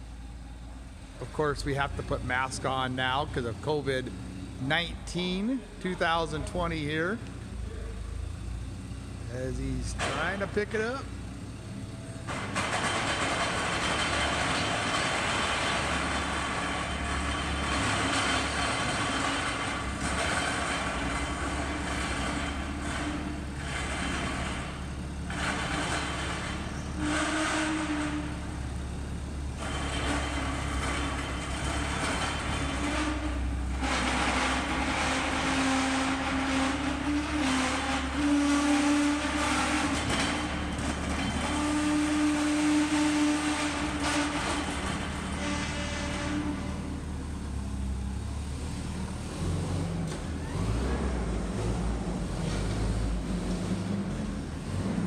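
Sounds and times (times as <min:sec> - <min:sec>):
heavy machine engine under load: 0:00.0 - 0:55.0.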